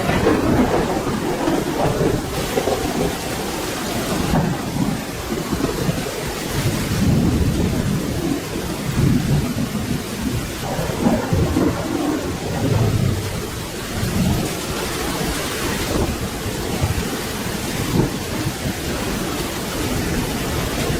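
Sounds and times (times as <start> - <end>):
steady rain: 0.0 - 20.9
thunder rumbling: 0.0 - 20.9.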